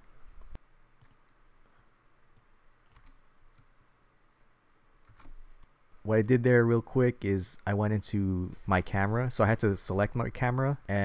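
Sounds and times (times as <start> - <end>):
low room hiss: 0.0 - 11.0.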